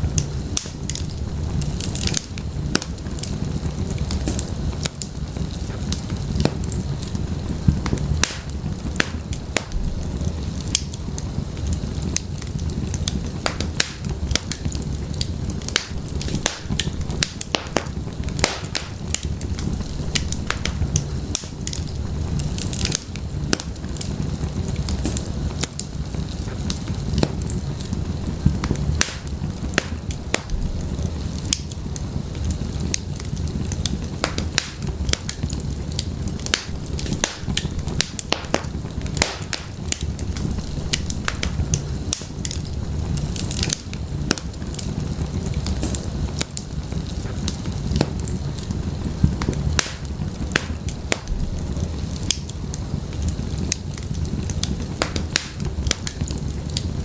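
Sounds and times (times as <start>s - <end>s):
fire rumbling in fireplace: 0.0s - 57.0s
firewood crackling and popping: 0.0s - 57.0s.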